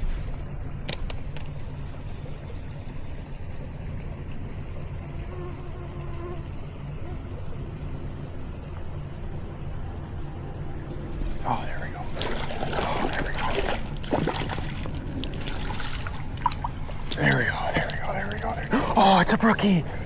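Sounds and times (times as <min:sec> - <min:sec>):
high-pitched insect chorus: 0:00.0 - 0:20.0
low steady rumble: 0:00.0 - 0:20.0.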